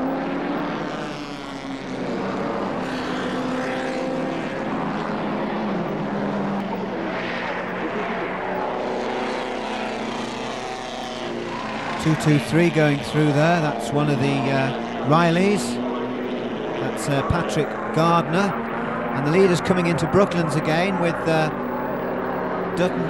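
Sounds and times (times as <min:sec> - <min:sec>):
racing car engines running hard: 0:00.0 - 0:23.0.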